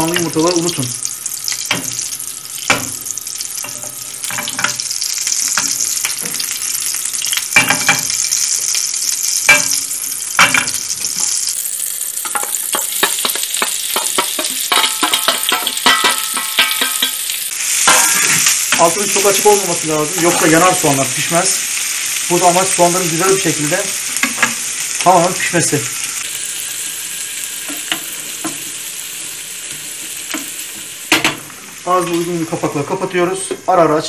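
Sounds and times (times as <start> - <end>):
onions crackling while stirred: 0.0 - 33.6
fat sizzling in a frying pan: 0.0 - 34.0.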